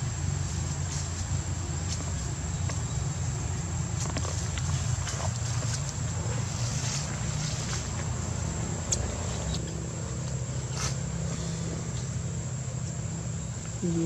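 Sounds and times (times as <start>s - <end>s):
motor engine rumbling: 0.0s - 14.0s.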